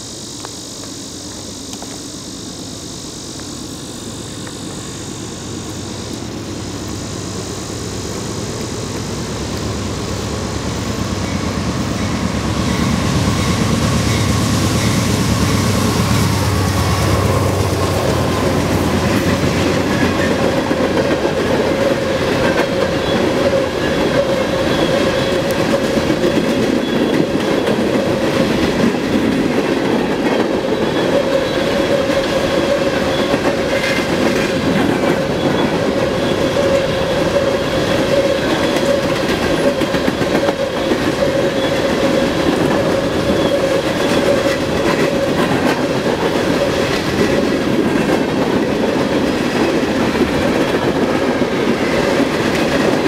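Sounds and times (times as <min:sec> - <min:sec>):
steady ringing tone: 0:00.0 - 0:52.9
train wheels rumbling on rails: 0:00.0 - 0:53.0.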